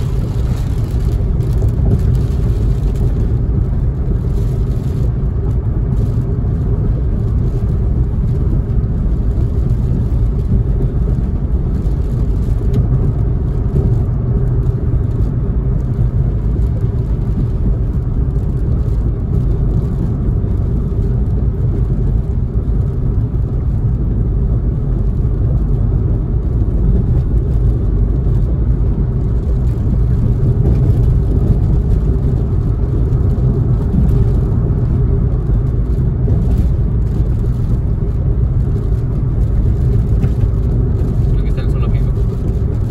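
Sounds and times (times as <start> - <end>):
car engine rumble from inside: 0.0 - 42.9
tyres on wet pavement: 0.0 - 42.9.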